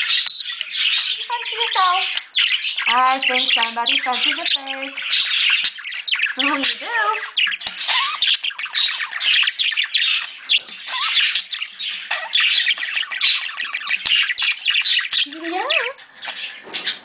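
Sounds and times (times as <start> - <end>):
budgerigars chattering and squawking: 0.0 - 17.0.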